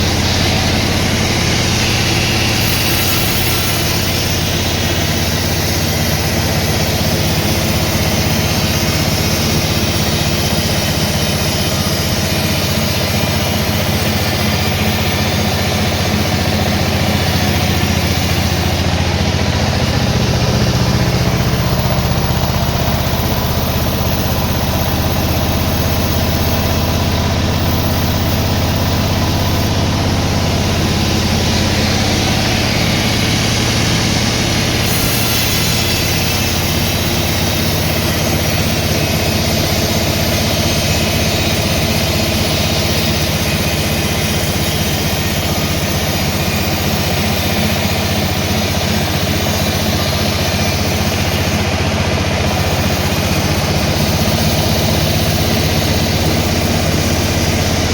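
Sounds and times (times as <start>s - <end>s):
engine running steadily: 0.0s - 57.9s.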